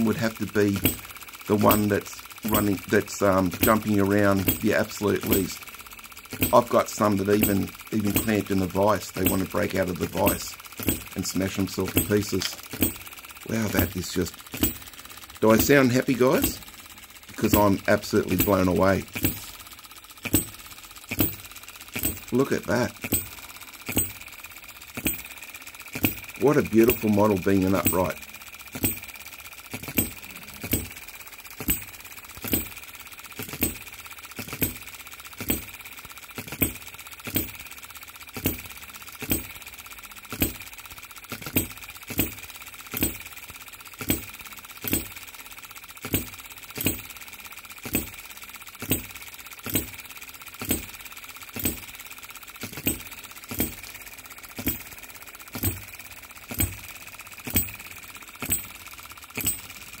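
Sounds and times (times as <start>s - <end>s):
small engine popping: 0.0s - 60.0s.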